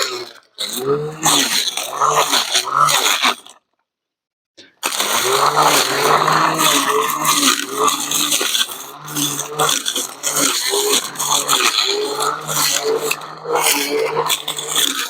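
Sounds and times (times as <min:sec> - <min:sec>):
brush cutter motor hum: 0:00.0 - 0:03.5, 0:04.8 - 0:15.0.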